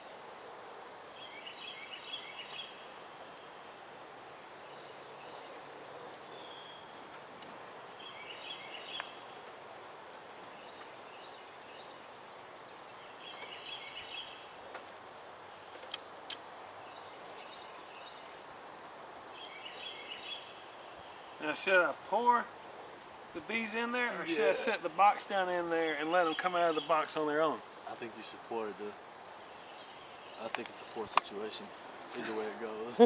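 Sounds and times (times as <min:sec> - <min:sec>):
outdoor background hiss: 0:00.0 - 0:33.0
bird chirping: 0:01.1 - 0:03.7, 0:04.4 - 0:09.6, 0:10.4 - 0:14.8, 0:16.7 - 0:18.6, 0:19.2 - 0:33.0.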